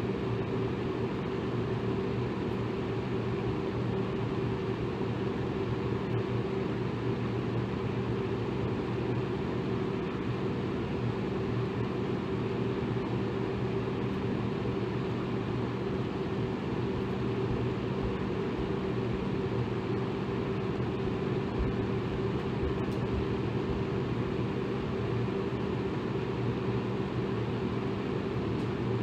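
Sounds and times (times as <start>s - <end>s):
electric fan air rush: 0.0s - 29.0s.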